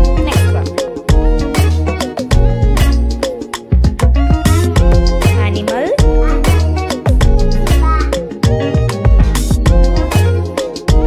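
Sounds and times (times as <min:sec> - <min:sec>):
upbeat music with bass: 0:00.0 - 0:11.0.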